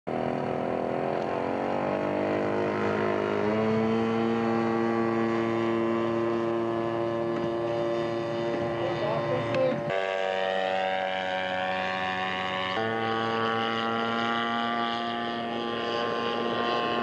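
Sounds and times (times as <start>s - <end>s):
model airplane engine revving: 0.1s - 17.0s.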